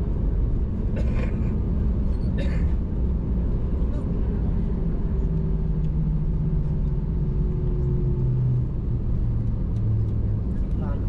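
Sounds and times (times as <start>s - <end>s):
jet cabin roar: 0.0s - 11.0s.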